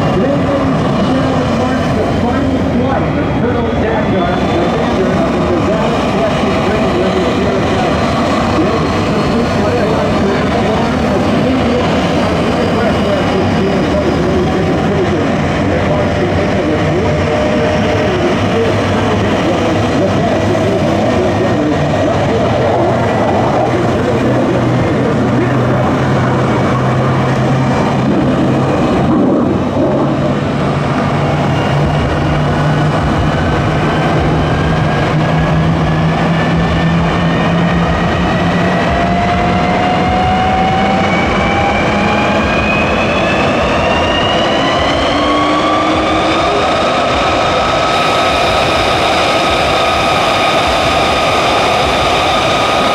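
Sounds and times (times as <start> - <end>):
jet engine roaring: 0.0 - 52.9
rising jet whine: 0.0 - 52.9.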